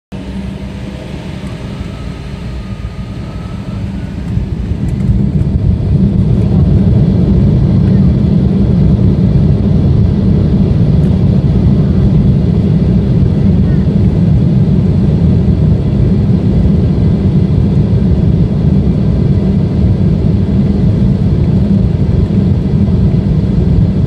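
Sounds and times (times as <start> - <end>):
jet engines spooling up: 0.1 - 24.0.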